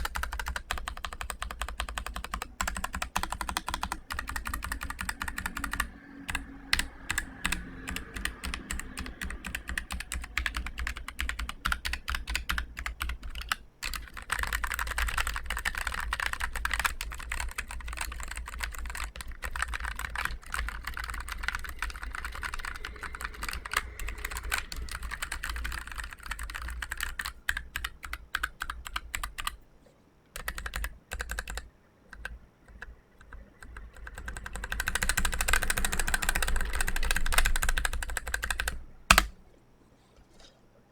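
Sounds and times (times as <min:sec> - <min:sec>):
mechanical keyboard typing: 0:00.0 - 0:29.6, 0:30.4 - 0:39.4.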